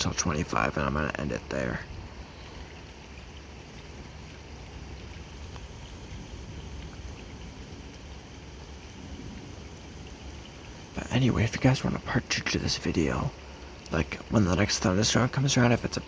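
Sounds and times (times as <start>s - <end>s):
faint drip ticks: 0.0s - 16.0s
steady rain hiss: 0.0s - 16.0s.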